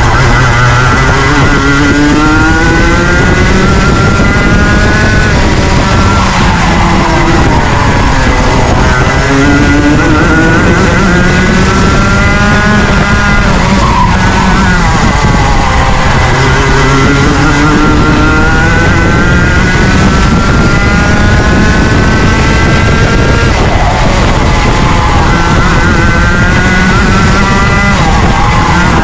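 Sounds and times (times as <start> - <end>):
two-stroke kart engine revving: 0.0 - 29.0.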